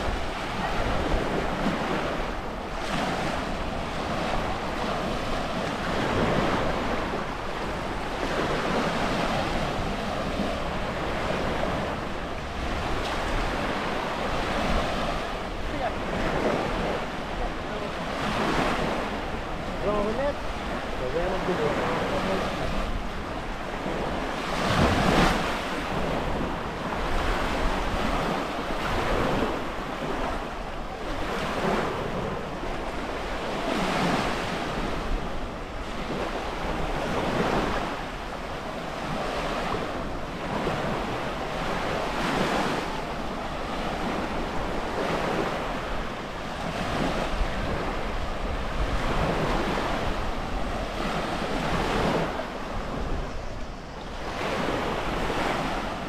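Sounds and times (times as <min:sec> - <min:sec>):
sea waves washing onto shore: 0:00.0 - 0:56.0
wind buffeting microphone: 0:00.0 - 0:56.0.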